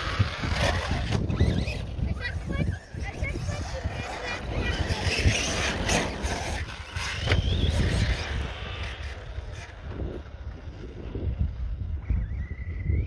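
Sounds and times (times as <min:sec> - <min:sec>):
electric motor whining: 0:00.0 - 0:13.0
wind rumbling on microphone: 0:00.0 - 0:13.0.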